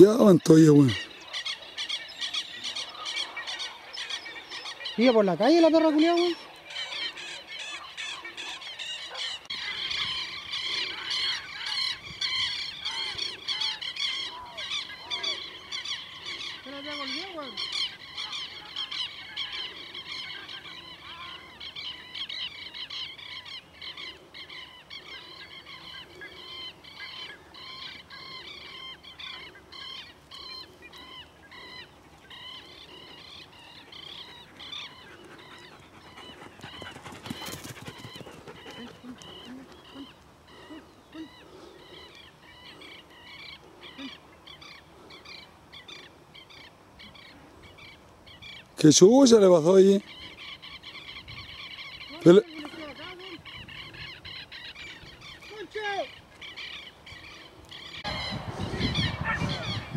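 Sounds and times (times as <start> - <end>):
birds chattering calls: 0.0 - 59.9.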